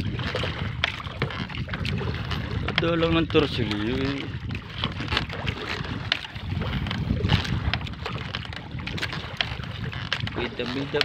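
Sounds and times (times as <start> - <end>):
water around a boat: 0.0 - 11.0
wind: 0.0 - 11.0.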